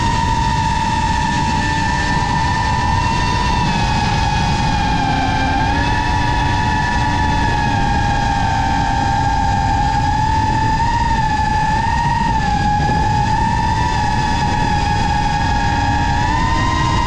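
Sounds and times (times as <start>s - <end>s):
low rumble: 0.0s - 17.0s
quadcopter motors whining: 0.0s - 17.0s.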